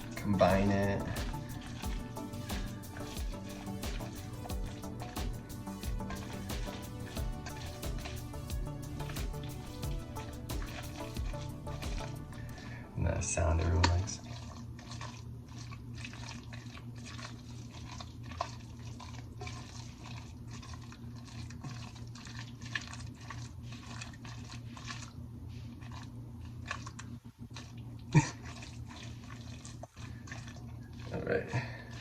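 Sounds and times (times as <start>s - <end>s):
steady low hum: 0.0s - 32.0s
wet squishy mixing in a bowl: 0.0s - 32.0s.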